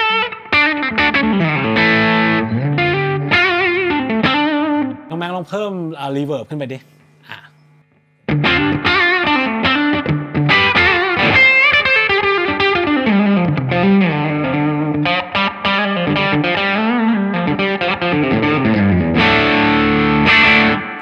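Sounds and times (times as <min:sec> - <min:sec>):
electric guitar lead with overdrive: 0:00.0 - 0:05.1, 0:08.3 - 0:21.0.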